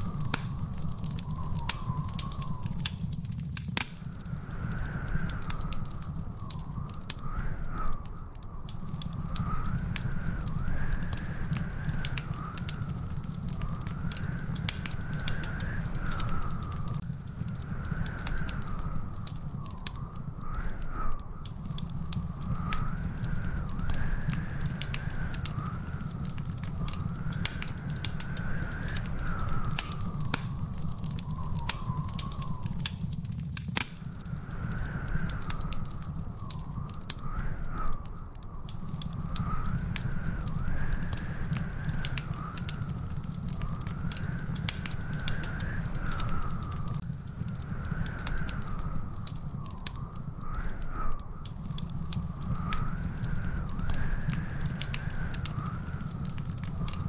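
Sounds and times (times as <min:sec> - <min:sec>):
faint wavering whistle tone: 0:00.0 - 0:03.2, 0:04.0 - 0:33.2, 0:34.0 - 0:57.0
fire crackling and popping: 0:00.0 - 0:57.0.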